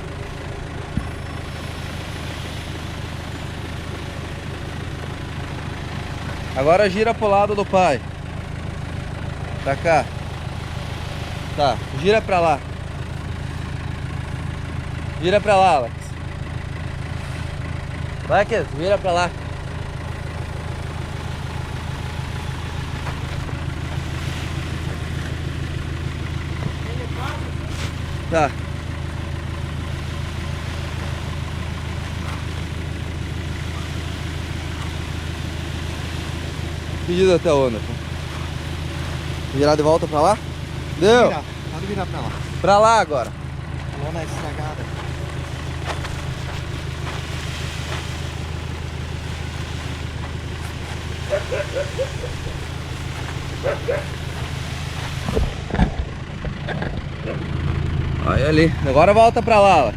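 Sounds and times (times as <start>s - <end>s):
machine engine idling: 0.0s - 59.9s.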